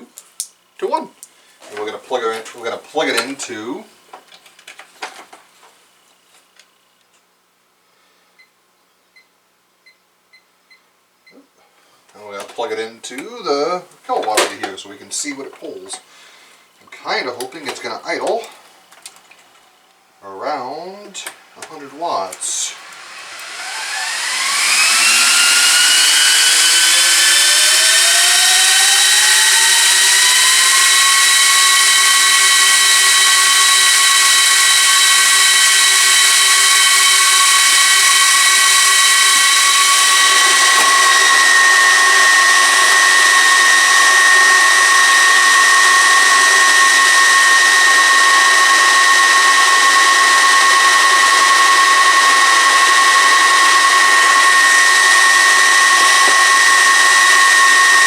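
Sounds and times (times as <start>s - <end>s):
server cooling fans whining: 0.0s - 6.9s, 11.7s - 58.0s.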